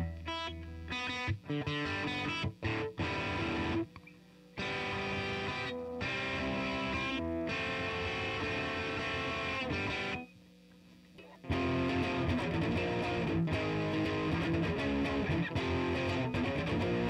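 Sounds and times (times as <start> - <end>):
electric guitar chords: 0.0 - 10.3, 11.2 - 17.0
faint amp hum: 0.0 - 17.0.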